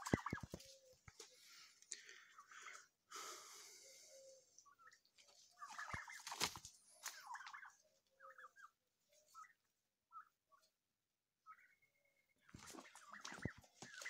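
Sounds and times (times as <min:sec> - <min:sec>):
turkeys calling: 0:00.0 - 0:14.0.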